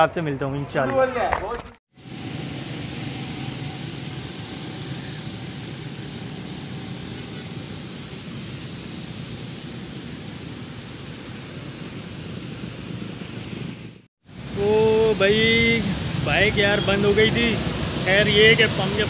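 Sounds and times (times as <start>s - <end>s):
rain hiss: 2.0s - 19.0s
traffic on wet road: 2.3s - 19.0s.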